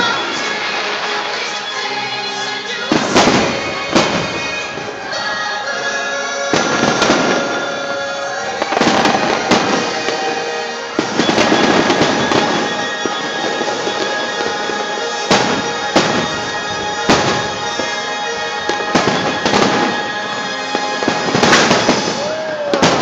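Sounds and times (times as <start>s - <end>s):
fireworks bangs and crackle: 0.0s - 23.0s
music playing: 0.0s - 23.0s.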